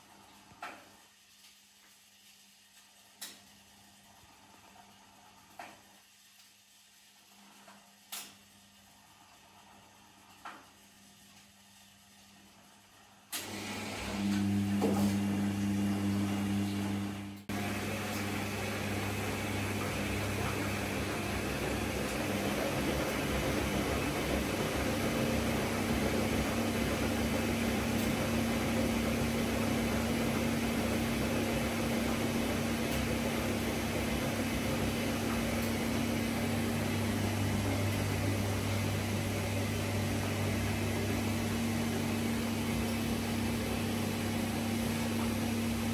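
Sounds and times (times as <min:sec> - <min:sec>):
washing machine running: 0:02.8 - 0:06.2, 0:07.0 - 0:45.9.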